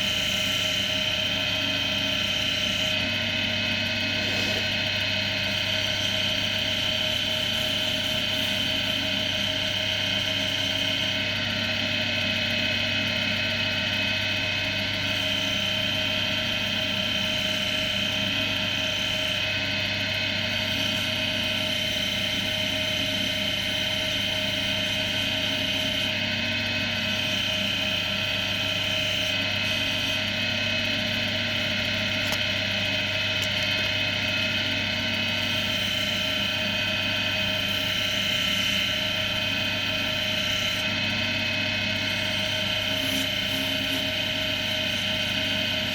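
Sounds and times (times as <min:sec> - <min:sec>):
wood lathe motor humming: 0:00.0 - 0:45.9.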